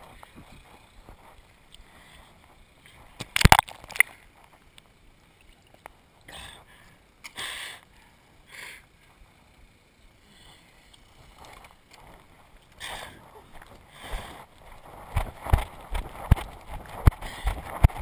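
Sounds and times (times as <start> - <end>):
rustling hiss: 0.0 - 18.0.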